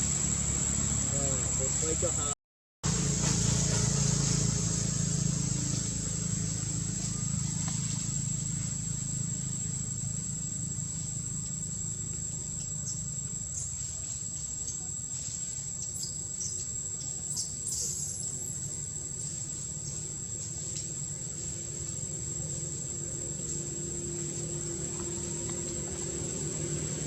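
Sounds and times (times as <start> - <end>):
high insect drone: 0.0 - 2.3, 2.9 - 27.0
low outdoor rumble: 0.0 - 27.0.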